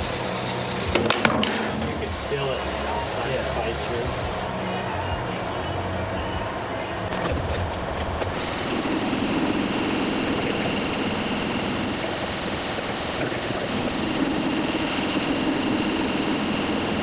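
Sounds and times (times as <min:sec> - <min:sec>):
lathe tool cutting metal: 0:00.0 - 0:17.0
metal lathe whine: 0:00.0 - 0:17.0.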